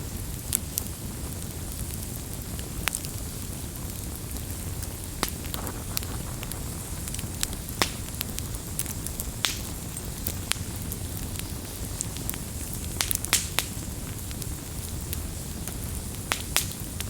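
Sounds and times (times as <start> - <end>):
campfire crackling and popping: 0.0 - 17.0
low rumble of campfire: 0.0 - 17.0.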